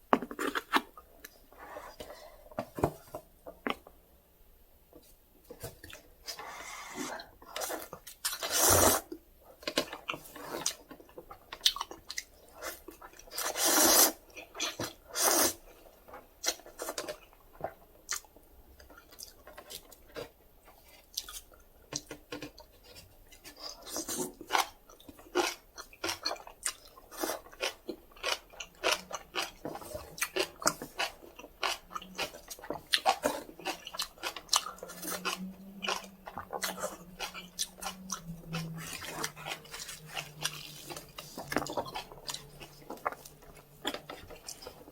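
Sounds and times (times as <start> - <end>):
wet chewing and smacking: 7.3 - 13.6, 14.2 - 44.9.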